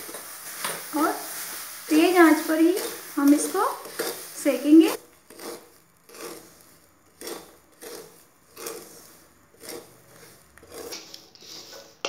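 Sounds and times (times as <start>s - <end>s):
spatula scraping in metal pan: 0.0s - 12.0s.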